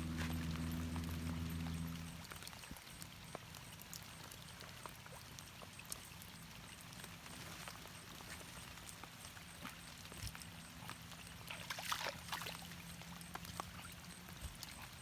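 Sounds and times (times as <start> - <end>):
faint water trickling and dripping: 0.0 - 15.0.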